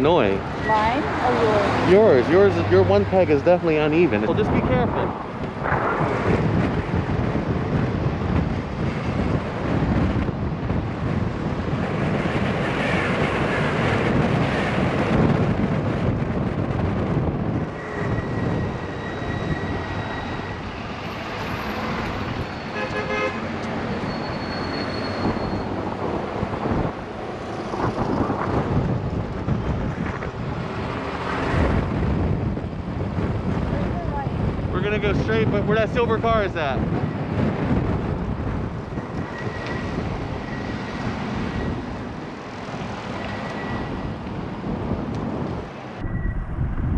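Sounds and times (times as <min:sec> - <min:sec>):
road traffic noise: 0:00.0 - 0:46.9
wind buffeting microphone: 0:00.0 - 0:46.9.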